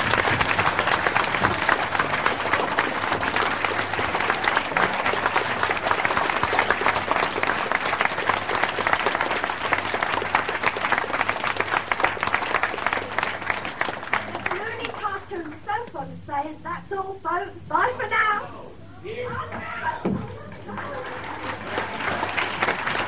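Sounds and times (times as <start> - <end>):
audience applauding: 0.0 - 15.2, 19.4 - 23.0
low tape hum: 0.0 - 23.0.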